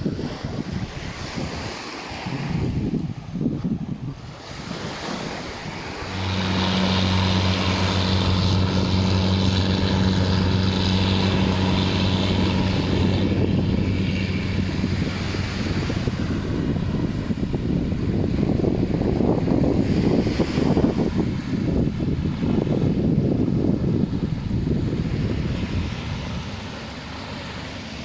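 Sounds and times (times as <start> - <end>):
surf: 0.0 - 28.0
wind: 0.0 - 28.0
low engine drone: 3.9 - 28.0.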